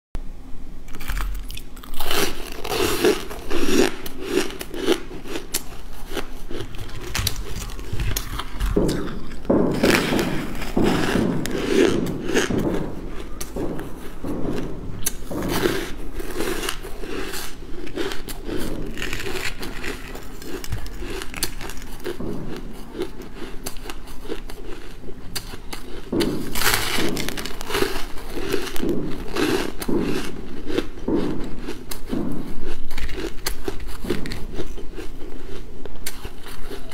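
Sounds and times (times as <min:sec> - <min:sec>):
crunching ice: 0:00.9 - 0:14.4, 0:15.0 - 0:36.9.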